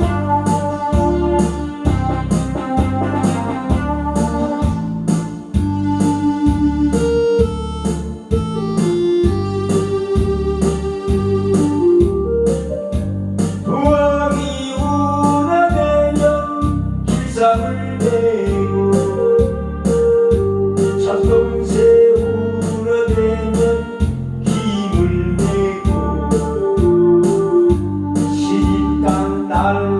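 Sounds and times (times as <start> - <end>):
electronic keyboard melody: 0.0 - 29.9
steady bass beat: 0.0 - 29.9.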